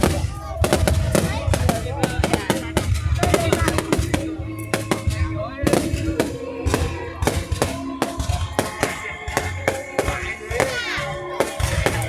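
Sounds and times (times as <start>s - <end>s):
fireworks banging: 0.0s - 12.0s
music playing: 0.0s - 12.0s.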